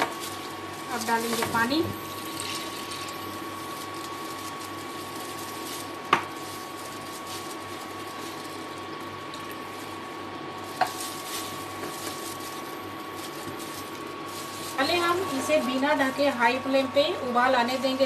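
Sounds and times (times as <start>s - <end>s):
water bubbling and hissing in pot: 0.0s - 15.8s
steady high hum: 0.0s - 18.0s.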